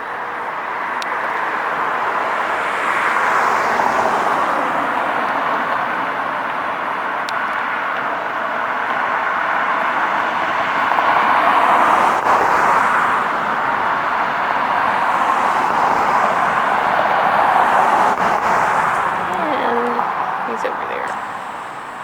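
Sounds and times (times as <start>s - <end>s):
steady hum of cars: 0.0s - 22.0s
vehicles passing: 0.0s - 22.0s.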